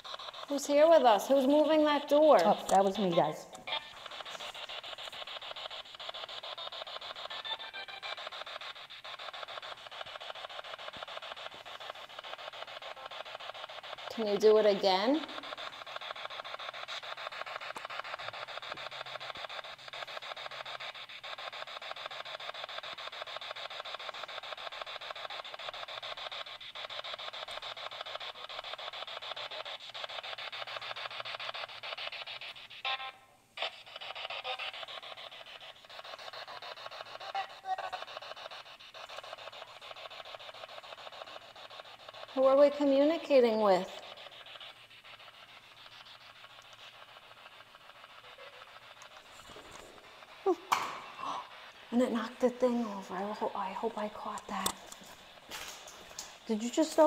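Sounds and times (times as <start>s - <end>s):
pulsing electronic static hiss: 0.0s - 57.0s.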